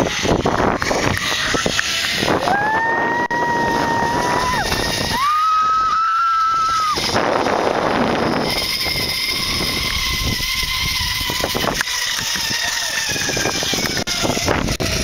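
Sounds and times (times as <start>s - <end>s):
wind rushing past microphone: 0.0s - 15.0s
zip-line pulleys whining on cable: 0.0s - 15.0s.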